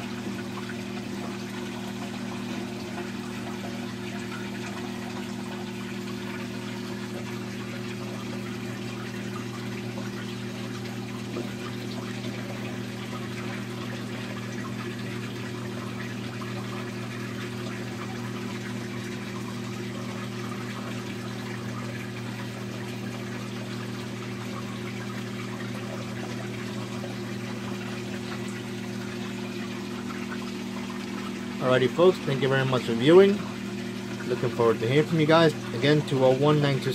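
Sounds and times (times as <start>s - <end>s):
aquarium pump hum: 0.0s - 36.9s
water rushing and trickling: 0.0s - 36.9s.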